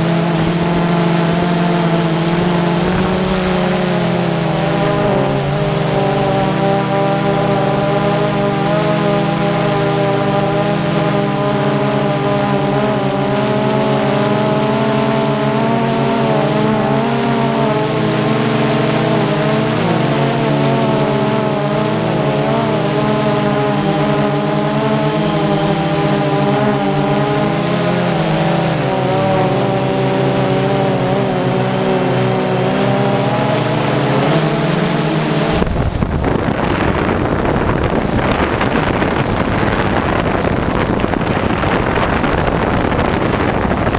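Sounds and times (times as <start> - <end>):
drone propellers whining: 0.0 - 43.9
wind noise on microphone: 0.0 - 43.9.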